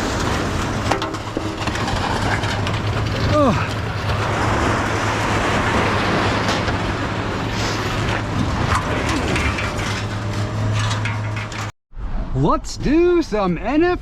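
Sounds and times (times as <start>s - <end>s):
road rumble: 0.0s - 12.5s.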